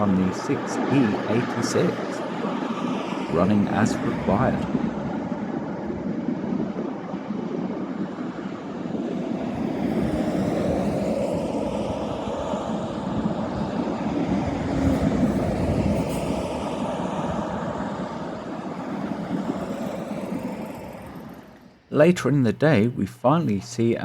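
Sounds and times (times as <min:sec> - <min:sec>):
rail noise: 0:00.0 - 0:07.2, 0:07.8 - 0:24.0.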